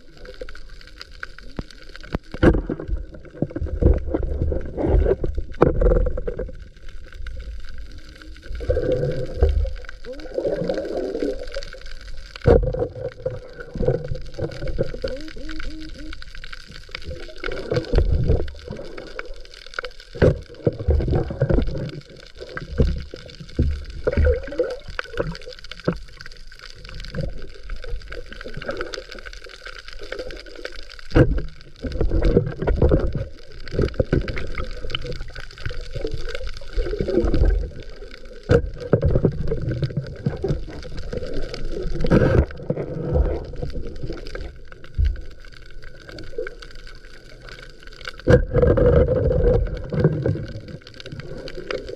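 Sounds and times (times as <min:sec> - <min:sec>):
underwater water sloshing: 0:00.0 - 0:51.9.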